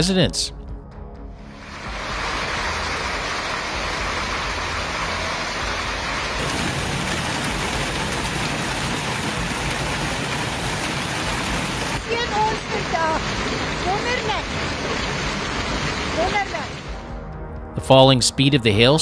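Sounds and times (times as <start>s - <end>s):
hail and rain pelting down: 1.6s - 17.0s.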